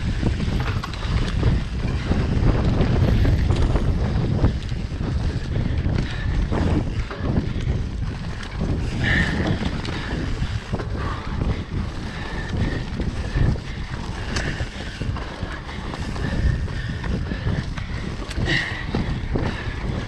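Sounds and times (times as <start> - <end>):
dirt bike engine rumble: 0.0 - 20.0
wind buffeting microphone: 0.0 - 20.0.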